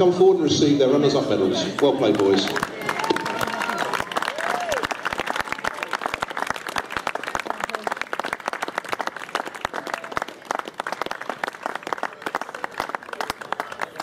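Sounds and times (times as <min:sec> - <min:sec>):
people clapping: 0:01.6 - 0:14.0.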